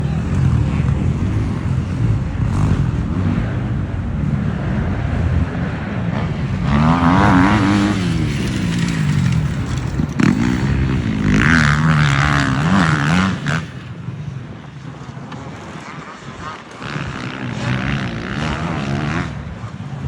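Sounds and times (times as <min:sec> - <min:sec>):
motorcycle engine revving: 0:00.0 - 0:14.8, 0:15.4 - 0:20.0.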